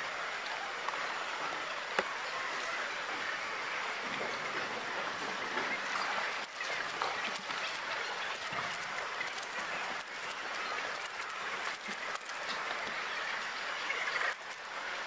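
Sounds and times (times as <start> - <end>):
crowd noise hiss: 0.0 - 15.0.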